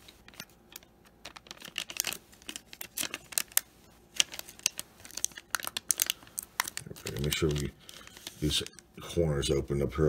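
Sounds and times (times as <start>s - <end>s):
foil pack crinkling: 0.0s - 8.9s.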